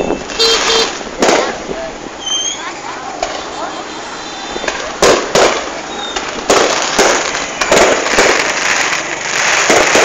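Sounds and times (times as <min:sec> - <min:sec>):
fireworks banging: 0:00.0 - 0:10.0.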